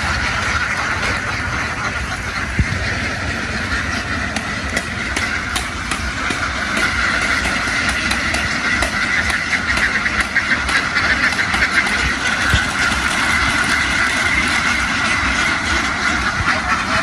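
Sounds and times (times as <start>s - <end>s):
ducks quacking: 0.0s - 17.0s
low rumble: 0.0s - 17.0s.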